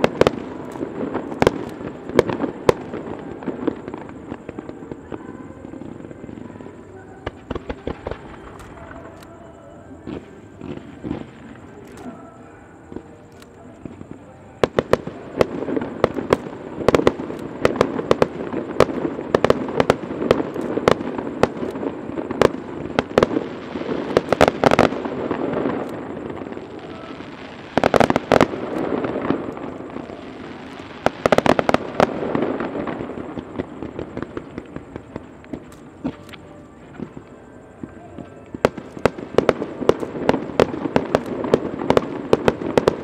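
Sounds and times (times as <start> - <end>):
fireworks bangs and pops: 0.0 - 9.2, 10.0 - 12.2, 12.9 - 37.4, 38.2 - 43.0.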